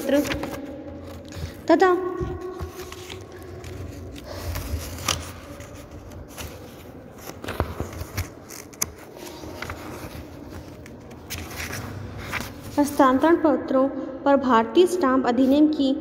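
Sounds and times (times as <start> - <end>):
rustling and scraping handling noise: 0.0 - 13.2.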